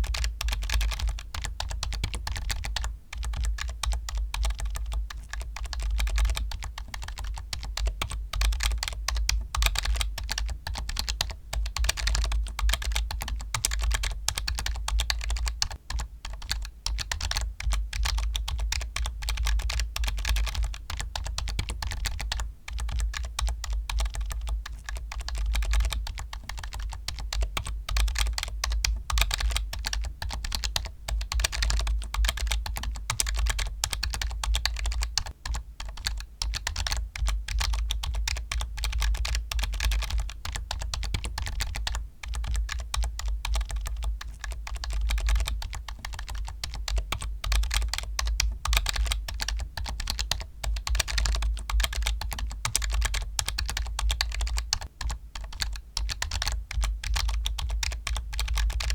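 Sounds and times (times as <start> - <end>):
typing on computer keyboard: 0.0 - 58.9.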